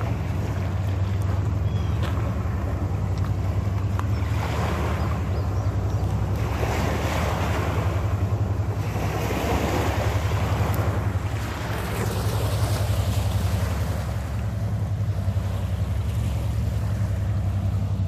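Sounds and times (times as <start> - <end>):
boat engine throbbing: 0.0 - 18.0
water wash rushing: 0.0 - 18.0.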